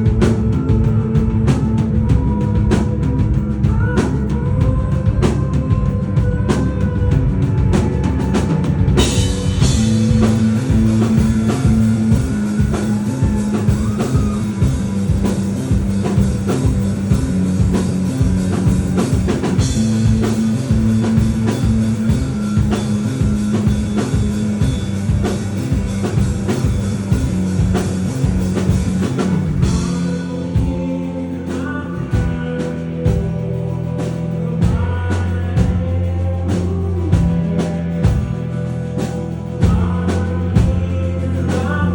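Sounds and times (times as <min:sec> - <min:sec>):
bass guitar: 0:00.0 - 0:41.9
drum kit beat: 0:00.0 - 0:41.9
electric guitar: 0:00.0 - 0:41.9
person singing: 0:00.0 - 0:41.9.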